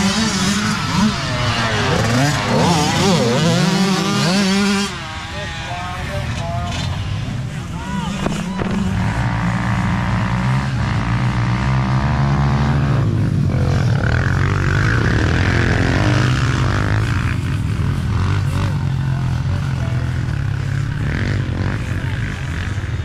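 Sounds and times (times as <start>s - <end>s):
dirt bikes accelerating past: 0.0s - 23.0s
drone of dirt bikes: 0.0s - 23.0s.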